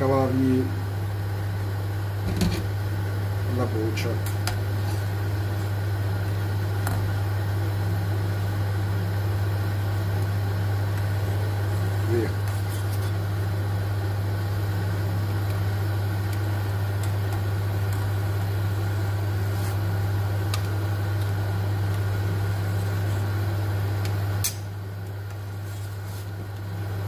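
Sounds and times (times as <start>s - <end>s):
water boiling in a pot: 4.4s - 27.0s.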